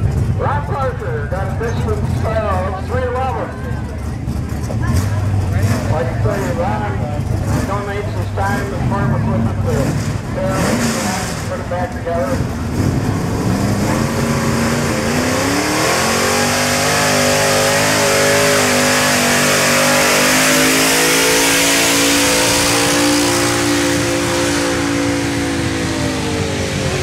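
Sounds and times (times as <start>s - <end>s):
truck engine revving under load: 1.4s - 27.0s.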